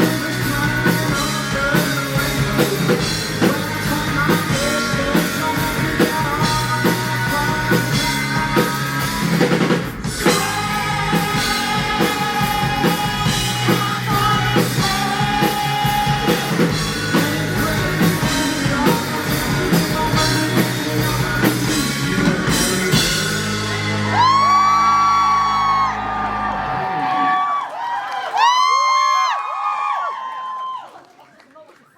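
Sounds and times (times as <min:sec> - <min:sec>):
drum kit: 0:00.0 - 0:27.0
guitars: 0:00.0 - 0:27.0
person singing: 0:00.0 - 0:27.4.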